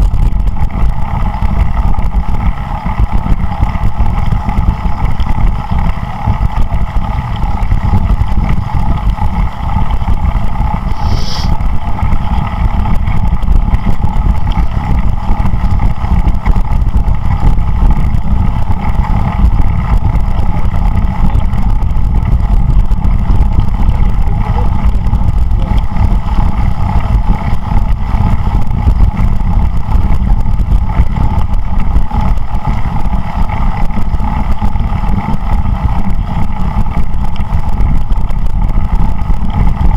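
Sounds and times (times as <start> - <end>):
steady hum: 0.0 - 39.9
wind buffeting microphone: 0.0 - 39.9.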